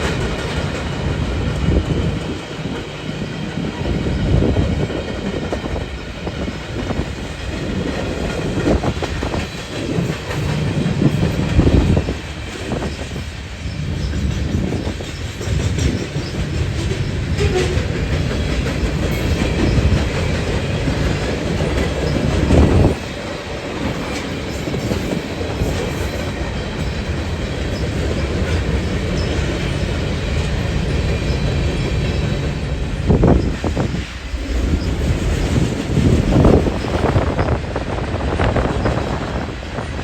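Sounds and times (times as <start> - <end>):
clickety-clack over rail joints: 0.0 - 40.0
train wheels rumbling on rails: 0.0 - 40.0.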